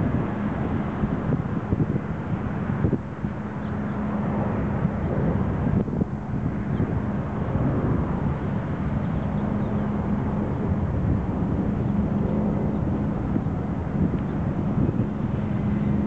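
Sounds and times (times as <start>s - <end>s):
engine drone: 0.0s - 16.0s
wind buffeting microphone: 0.0s - 16.0s.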